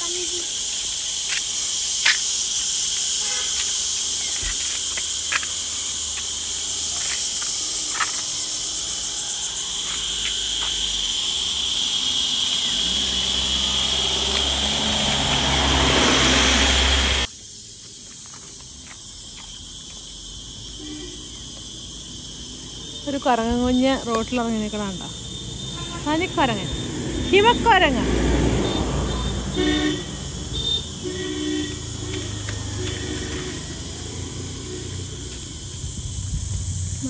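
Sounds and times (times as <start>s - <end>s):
insect chorus buzzing: 0.0s - 37.0s.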